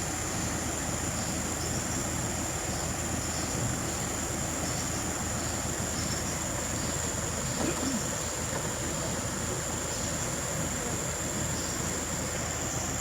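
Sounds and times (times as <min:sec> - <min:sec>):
vehicle engine running slowly: 0:00.0 - 0:13.0.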